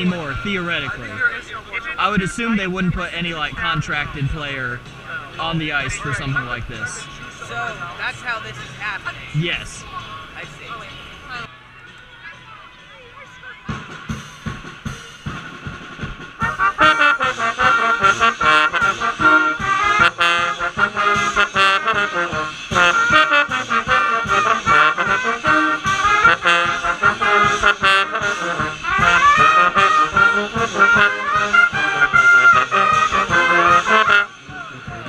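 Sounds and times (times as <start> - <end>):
brass pep band playing: 0.0 - 11.5, 13.0 - 35.0
drums: 0.0 - 35.0.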